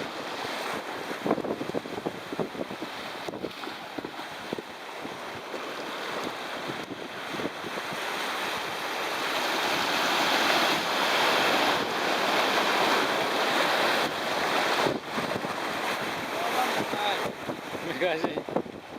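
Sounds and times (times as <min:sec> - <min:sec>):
sea waves breaking on shore: 0:00.0 - 0:18.9.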